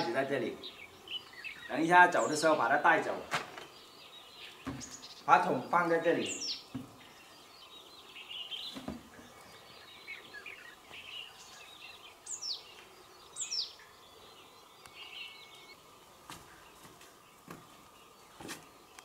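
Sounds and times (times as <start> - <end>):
faint bird chirps: 3.7 - 19.0.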